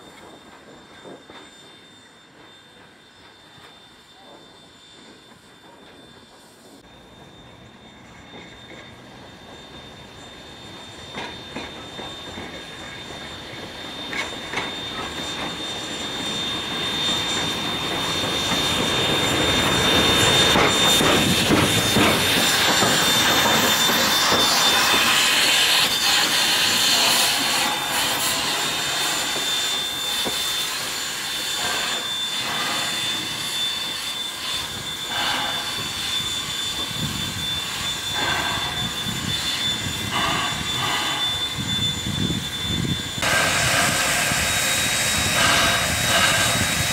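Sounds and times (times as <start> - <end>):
steam locomotive hissing: 0.0 - 46.9.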